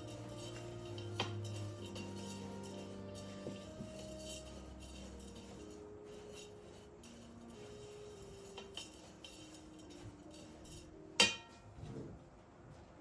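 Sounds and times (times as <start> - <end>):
kitchenware clinking: 0.0 - 6.6, 7.2 - 11.7
soft background music: 0.0 - 13.0.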